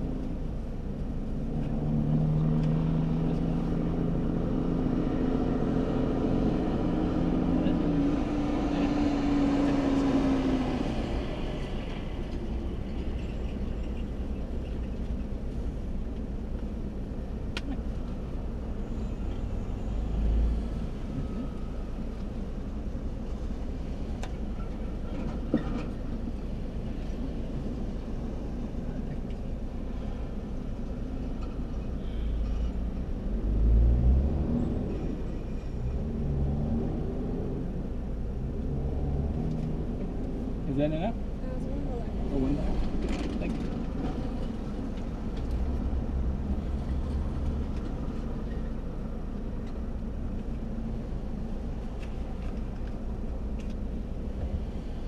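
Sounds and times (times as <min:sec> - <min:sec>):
vehicle rumble: 0:00.0 - 0:55.0.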